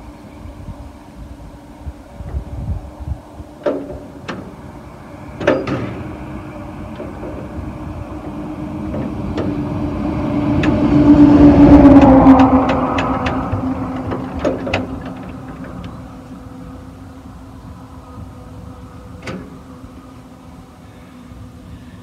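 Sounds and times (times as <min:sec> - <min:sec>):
tractor engine running: 0:02.3 - 0:21.7.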